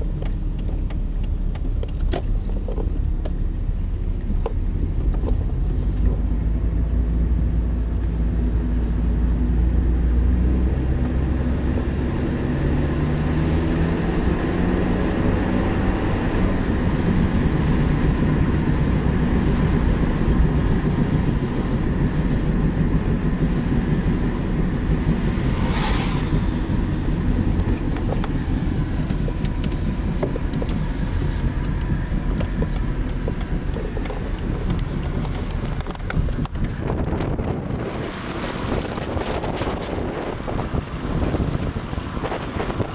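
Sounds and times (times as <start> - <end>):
car engine: 0.0 - 42.9
road noise inside car: 0.0 - 42.9.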